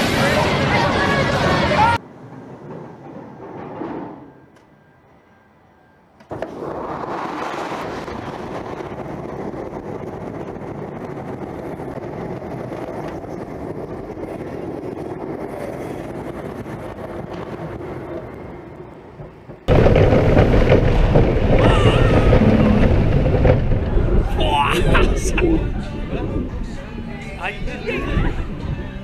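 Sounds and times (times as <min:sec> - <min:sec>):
coaster wheels rumbling on track: 0:00.0 - 0:05.0, 0:06.2 - 0:29.0
wind: 0:00.0 - 0:29.0.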